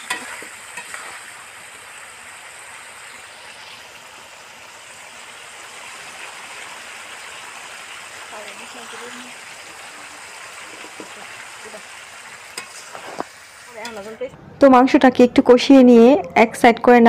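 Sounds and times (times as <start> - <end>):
chicken sizzling in oil: 0.0 - 14.3.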